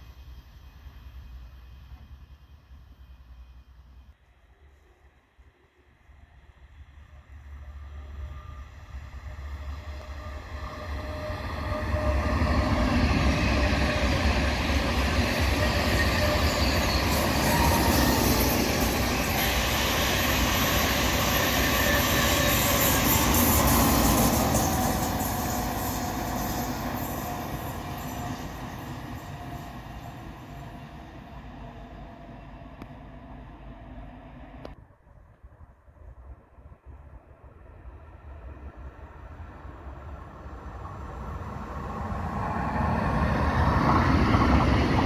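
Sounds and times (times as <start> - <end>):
high-speed train passing: 0.0 - 45.0.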